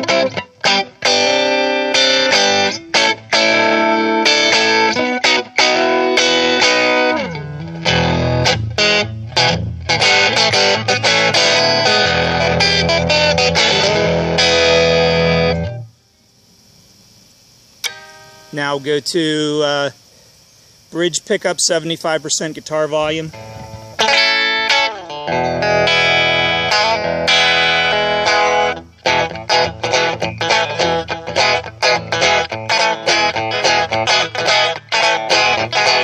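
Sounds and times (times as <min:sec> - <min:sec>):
electric guitar playing: 0:00.0 - 0:16.0, 0:17.8 - 0:18.7, 0:23.3 - 0:36.0
faint amp hiss: 0:00.0 - 0:36.0.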